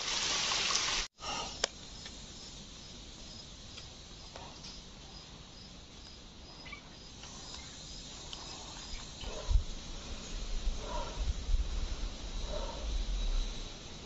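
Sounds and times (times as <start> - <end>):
soft hiss: 0.0 - 14.0
insect chirping: 1.2 - 14.0.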